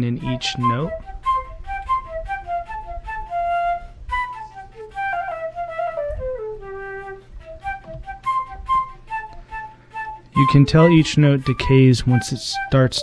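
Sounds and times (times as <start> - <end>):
flute melody: 0.0 - 13.0.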